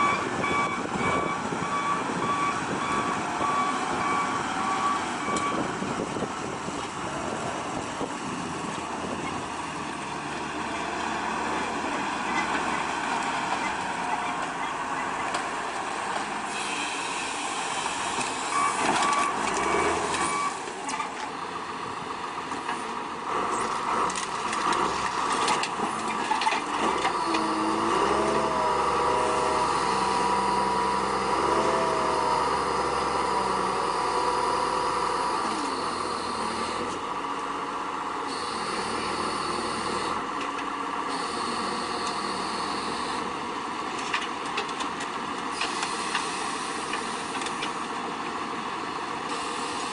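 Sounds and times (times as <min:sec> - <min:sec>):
heavy diesel truck running: 0:00.0 - 0:49.9.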